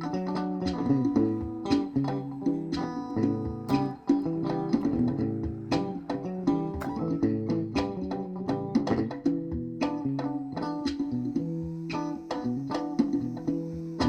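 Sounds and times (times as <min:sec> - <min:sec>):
plucked guitar notes: 0:00.0 - 0:14.0.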